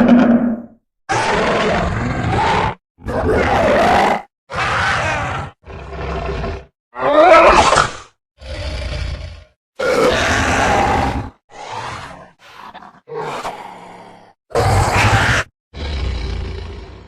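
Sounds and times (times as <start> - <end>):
dinosaur growling roars: 0.0 - 7.6, 8.4 - 17.0.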